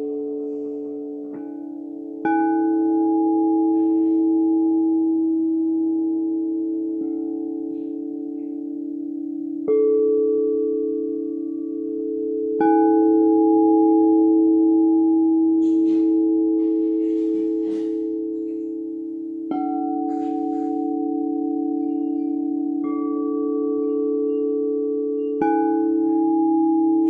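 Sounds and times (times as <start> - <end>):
singing bowls ringing: 0.0 - 27.0.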